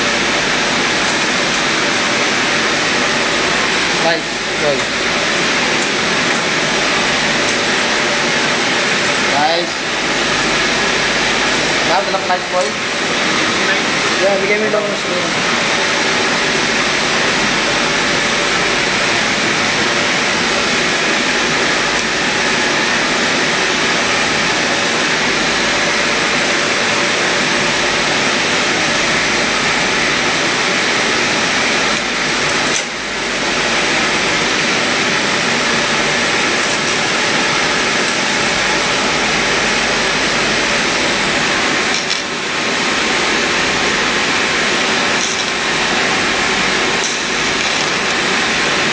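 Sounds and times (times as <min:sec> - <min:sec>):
welding arc hissing: 0:00.0 - 0:48.9.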